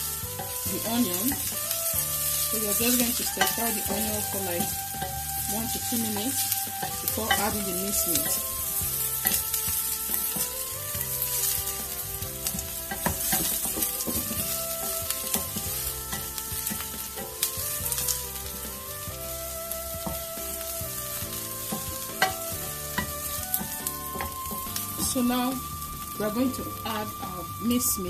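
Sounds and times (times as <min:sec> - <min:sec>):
spatula scraping and tapping pan: 0:00.0 - 0:26.2
onion sizzling in oil: 0:00.0 - 0:28.0.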